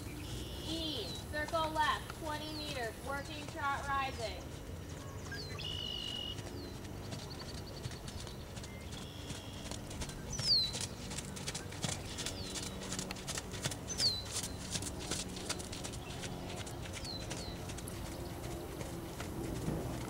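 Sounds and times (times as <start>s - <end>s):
horse hoofbeats trotting on sand: 0.0s - 20.0s.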